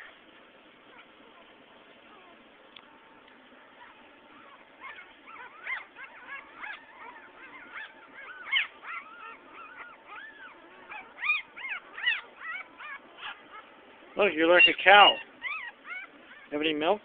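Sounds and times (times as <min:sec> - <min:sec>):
puppies squeaking and whimpering: 0:00.0 - 0:17.0.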